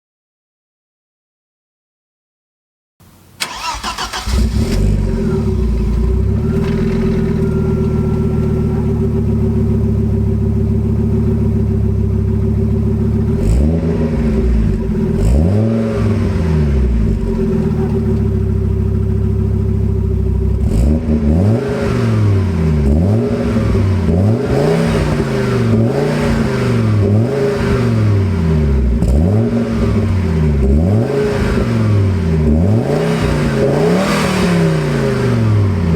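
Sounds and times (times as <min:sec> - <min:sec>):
car engine starting and revving: 0:03.4 - 0:35.9.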